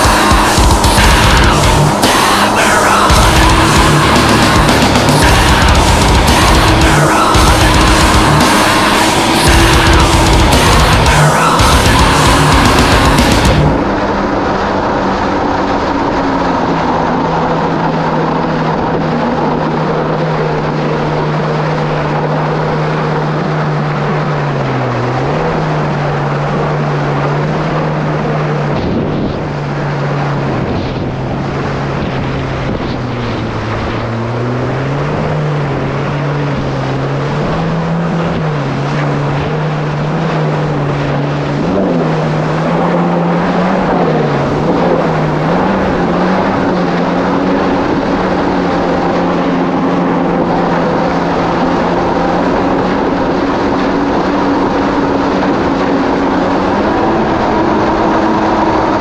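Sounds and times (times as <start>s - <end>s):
jet ski engine running: 0.0s - 59.0s
loud rushing water: 0.0s - 59.0s.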